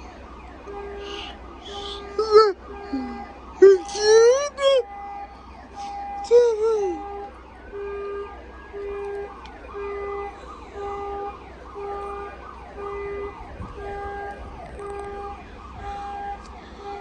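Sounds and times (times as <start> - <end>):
car alarm tone: 0.0 - 17.0.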